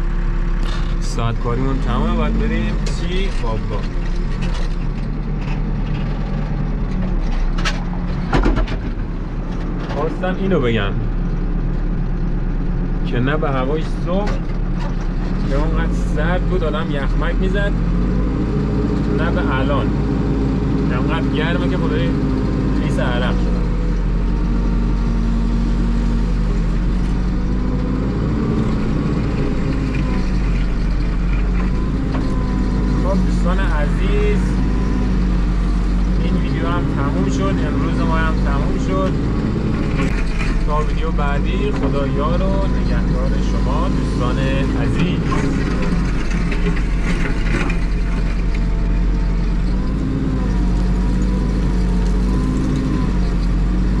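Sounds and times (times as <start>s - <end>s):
backhoe diesel engine running: 0.0s - 54.0s.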